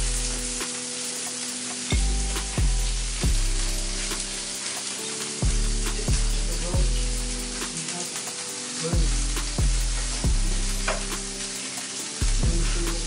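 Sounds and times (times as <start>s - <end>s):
background music with deep notes: 0.0s - 13.0s
food sizzling in a pan: 0.0s - 13.0s.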